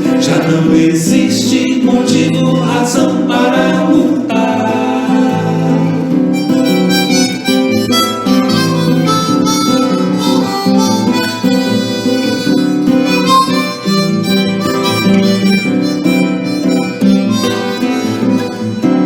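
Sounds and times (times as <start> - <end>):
acoustic guitar accompaniment: 0.0 - 19.0
harmonica melody: 0.0 - 19.0.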